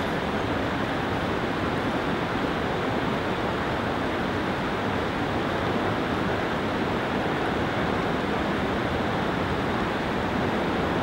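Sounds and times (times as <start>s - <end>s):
whitewater rushing over boulders: 0.0s - 11.0s.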